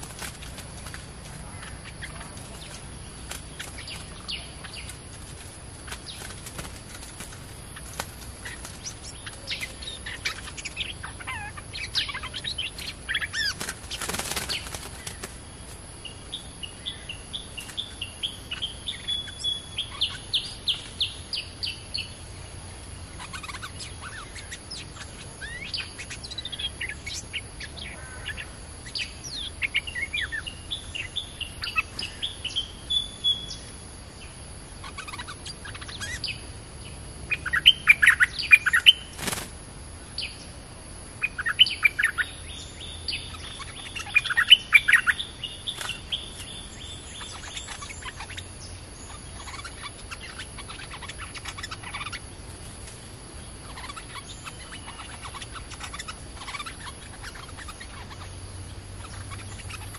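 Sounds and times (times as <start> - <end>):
birds chattering rapidly: 0.0 - 59.9
birds whistling and chirping: 1.5 - 5.0, 7.7 - 15.3, 16.1 - 22.2, 23.1 - 33.7, 34.8 - 36.4, 37.3 - 39.1, 41.2 - 52.3, 53.6 - 59.9.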